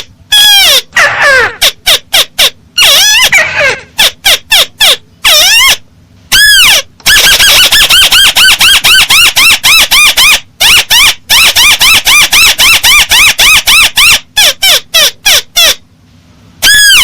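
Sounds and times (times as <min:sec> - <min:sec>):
crake calling: 0:00.3 - 0:15.8.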